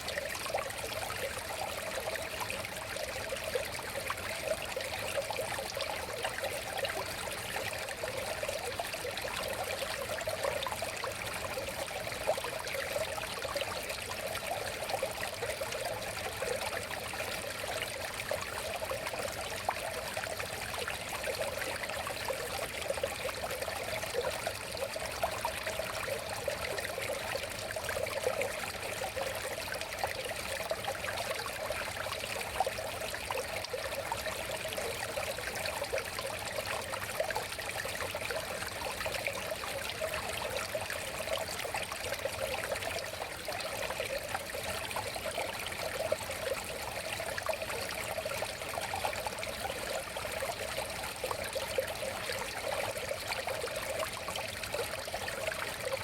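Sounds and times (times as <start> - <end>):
river water babbling: 0.0 - 56.0.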